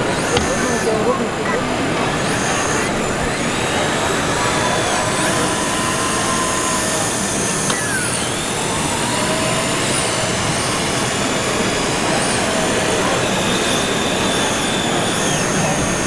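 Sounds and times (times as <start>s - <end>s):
electric motor whine: 0.0s - 16.0s
hydraulic pump whine: 0.0s - 16.0s.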